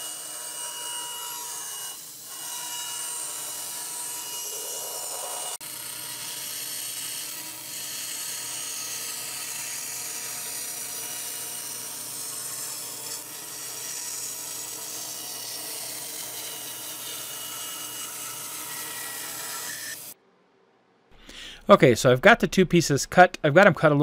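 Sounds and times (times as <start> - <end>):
bandsaw cutting wood: 0.0 - 20.2.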